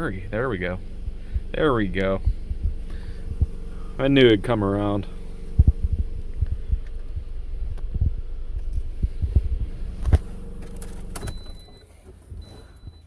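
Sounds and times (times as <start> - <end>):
low thumps and bumps: 0.0 - 13.0
steady low hum: 0.0 - 13.0.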